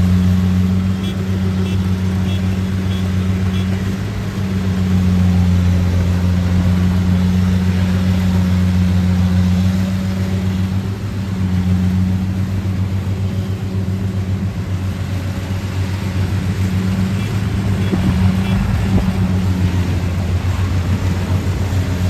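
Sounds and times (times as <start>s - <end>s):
harvester engine droning: 0.0s - 22.0s.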